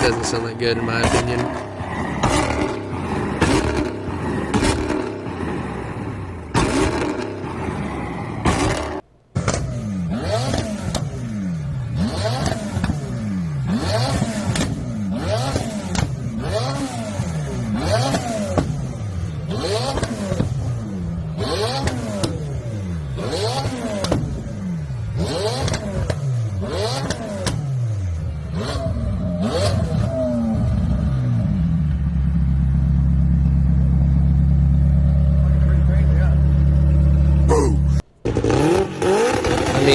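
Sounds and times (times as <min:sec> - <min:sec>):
exhaust cracks: 0:00.0 - 0:31.4, 0:32.0 - 0:39.9
car engine revving: 0:00.0 - 0:39.9.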